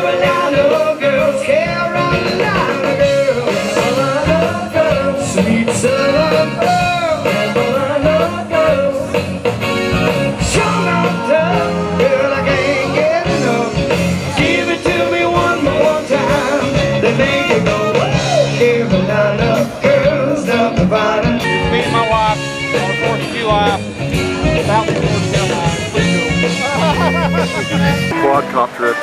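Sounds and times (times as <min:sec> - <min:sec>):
person singing: 0:00.0 - 0:23.3
live band playing: 0:00.0 - 0:29.0.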